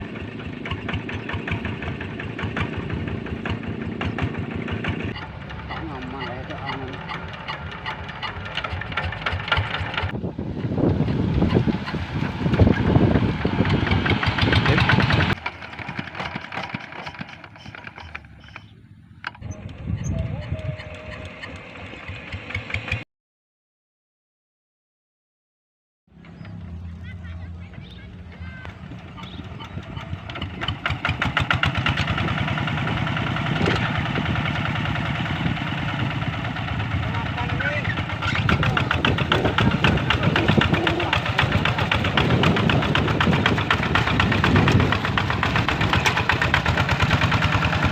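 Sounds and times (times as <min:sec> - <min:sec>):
diesel engine fast knocking: 0:00.0 - 0:23.0, 0:26.1 - 0:47.9.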